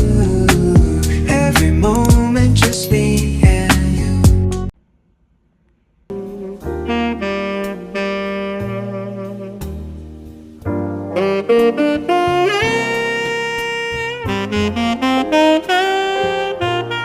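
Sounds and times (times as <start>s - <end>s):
saxophone music with keys and bass: 0.0s - 4.7s, 6.1s - 17.0s.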